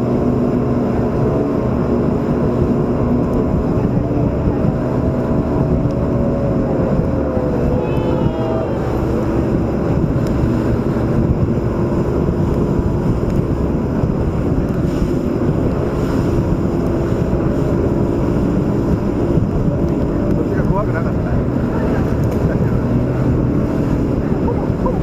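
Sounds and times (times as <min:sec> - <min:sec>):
boat motor running: 0:00.0 - 0:25.0
wind on microphone: 0:00.0 - 0:25.0.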